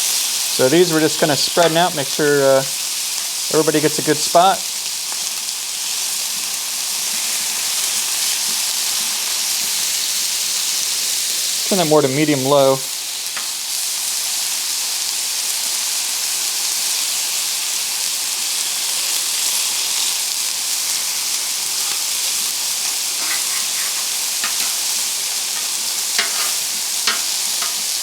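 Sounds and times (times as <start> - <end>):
food sizzling on a griddle: 0.0 - 28.0.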